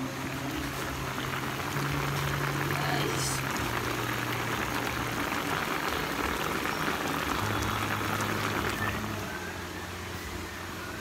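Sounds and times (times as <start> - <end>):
liquid boiling and bubbling: 0.0 - 9.7
low steady hum: 0.0 - 11.0.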